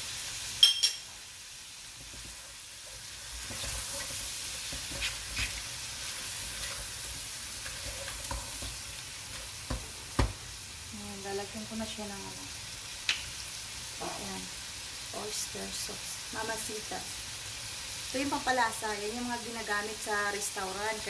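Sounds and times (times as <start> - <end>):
shrimp sizzling in butter: 0.0 - 21.0.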